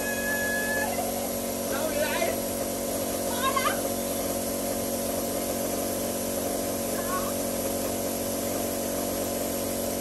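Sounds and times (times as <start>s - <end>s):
air compressor humming: 0.0s - 10.0s.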